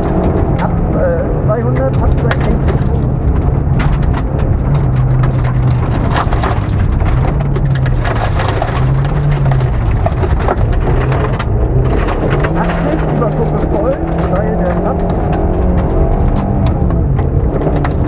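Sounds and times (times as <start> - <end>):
car engine running under load: 0.0 - 18.0
gravel striking car underbody: 0.0 - 18.0.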